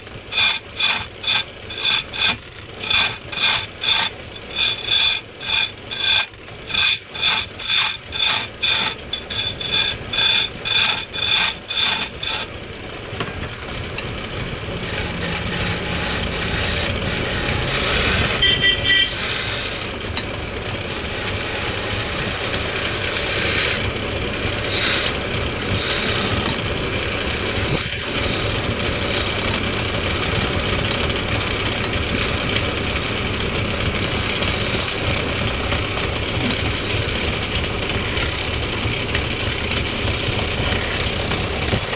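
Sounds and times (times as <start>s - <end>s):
lathe tool scraping wood: 0.0s - 41.9s.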